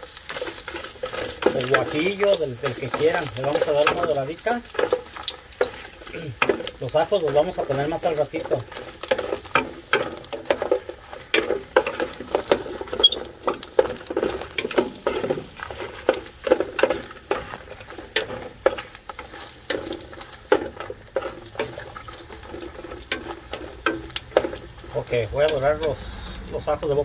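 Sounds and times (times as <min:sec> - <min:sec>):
chiles sizzling in oil: 0:00.0 - 0:27.0
wooden spoon scraping pot: 0:00.0 - 0:27.0.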